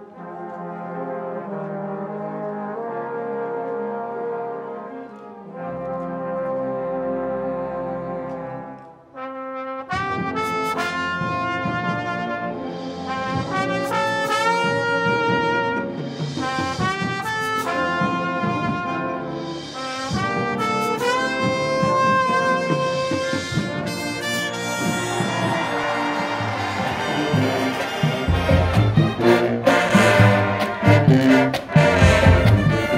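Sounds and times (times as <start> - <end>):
military marching band playing: 0.0 - 32.9.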